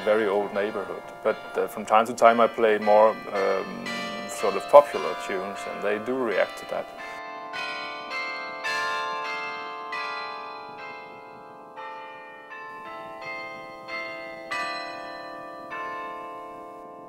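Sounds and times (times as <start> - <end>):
carillon bells playing slow tune: 0.0 - 17.0.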